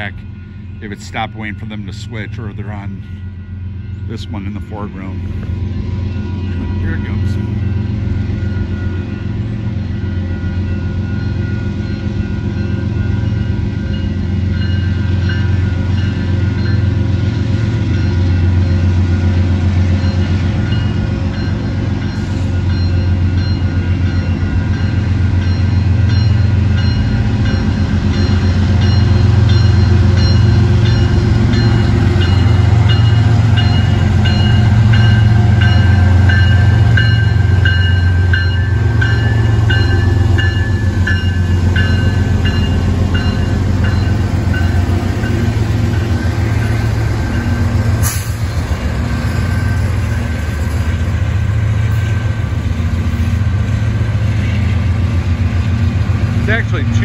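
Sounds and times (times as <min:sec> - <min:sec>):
locomotive engine hum: 0:00.0 - 0:57.0.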